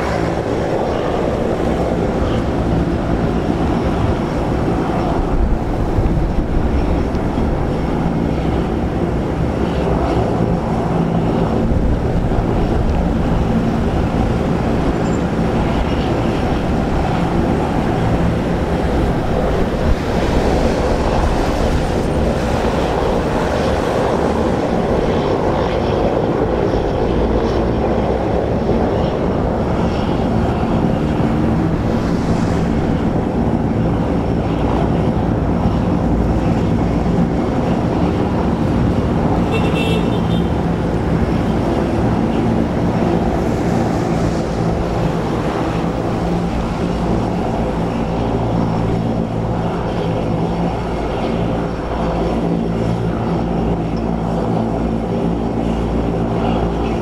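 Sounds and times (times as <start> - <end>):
turboprop plane engines running: 0.0 - 57.0.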